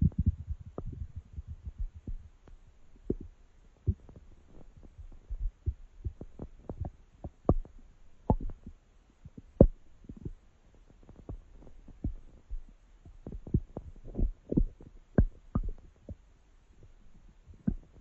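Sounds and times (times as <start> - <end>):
stomach gurgling and growling: 0.0 - 16.2, 16.8 - 18.0.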